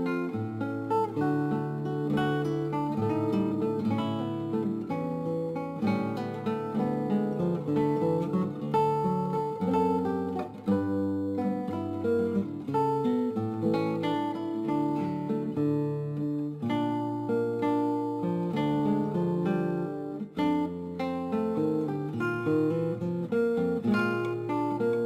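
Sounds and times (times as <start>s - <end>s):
acoustic guitar music: 0.0s - 25.0s.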